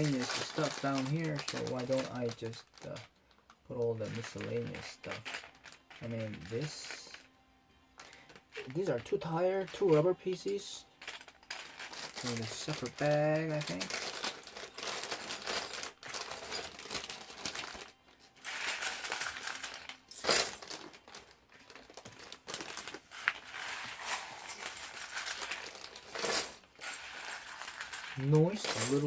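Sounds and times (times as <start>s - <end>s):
plastic bags crinkling: 0.0s - 7.3s, 8.0s - 29.0s.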